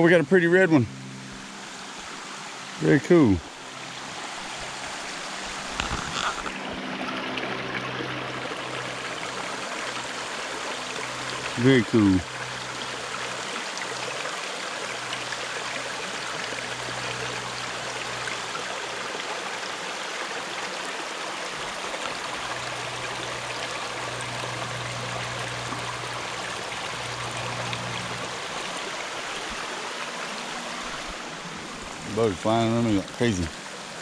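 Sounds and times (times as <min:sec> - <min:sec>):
stream flowing: 0:00.0 - 0:34.0.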